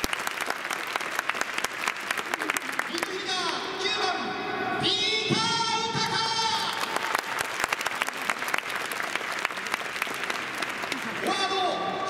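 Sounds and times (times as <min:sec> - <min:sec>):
crowd applauding: 0:00.0 - 0:03.8, 0:06.0 - 0:12.0.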